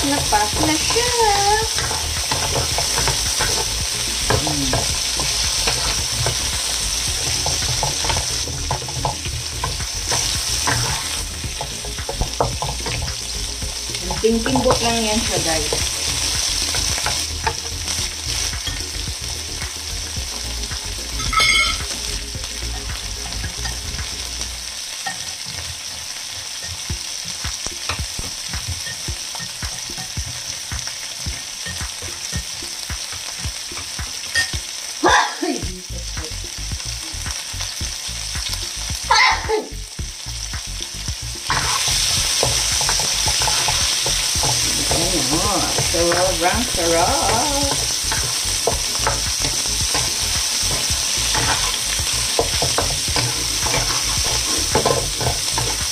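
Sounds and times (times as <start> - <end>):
food sizzling in oil: 0.0 - 55.9.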